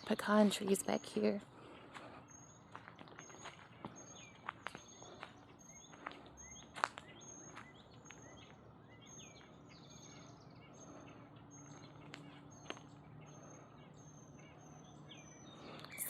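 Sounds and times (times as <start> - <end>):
birds chirping and singing: 0.0 - 16.0.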